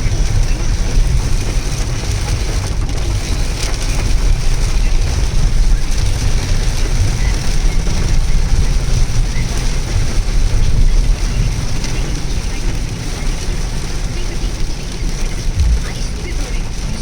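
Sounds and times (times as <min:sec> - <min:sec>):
rain and spray hiss: 0:00.0 - 0:17.0
tyres rumbling on wet road: 0:00.0 - 0:17.0.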